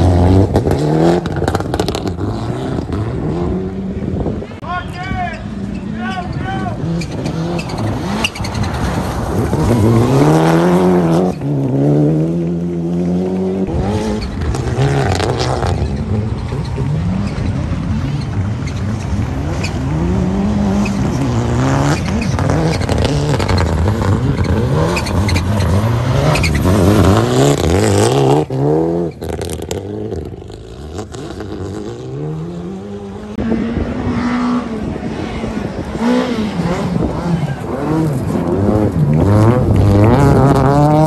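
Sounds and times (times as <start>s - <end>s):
rally car engine revving: 0.0s - 4.6s, 5.4s - 41.0s.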